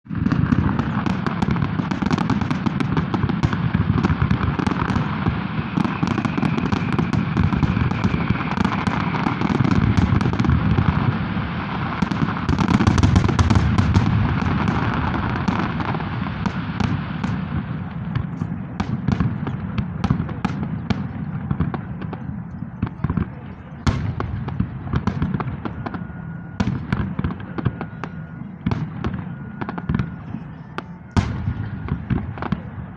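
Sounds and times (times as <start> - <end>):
fireworks bangs and crackling: 0.1 - 32.9.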